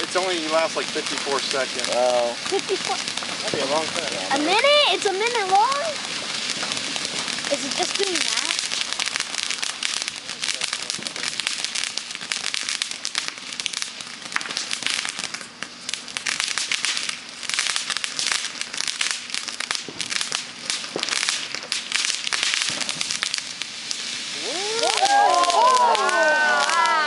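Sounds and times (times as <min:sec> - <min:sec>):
firework crackling: 0:00.0 - 0:27.0.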